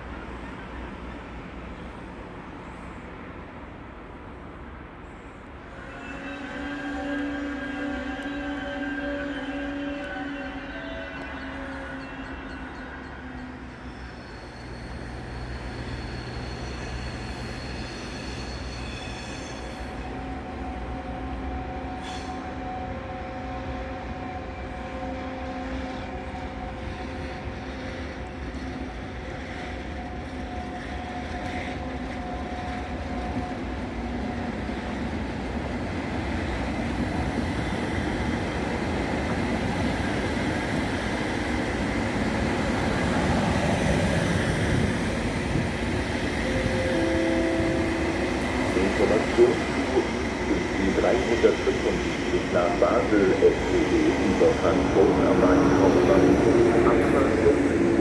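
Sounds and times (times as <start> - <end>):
electric train rumble and whine: 0.0 - 58.0.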